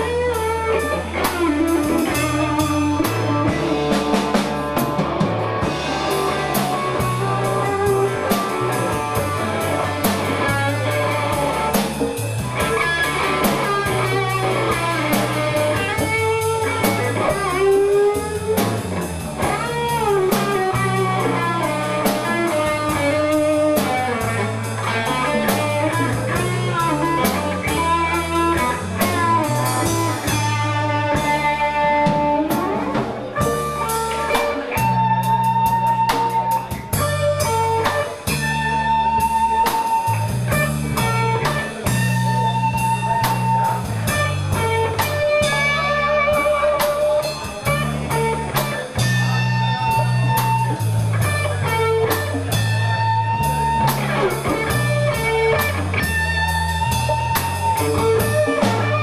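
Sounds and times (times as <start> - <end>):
bass line: 0.0 - 59.0
drum kit beat: 0.0 - 59.0
guitar melody: 0.0 - 59.0.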